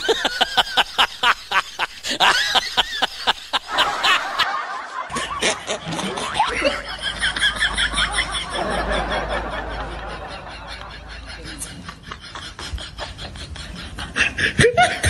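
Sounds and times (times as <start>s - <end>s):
person laughing: 0.0s - 15.0s.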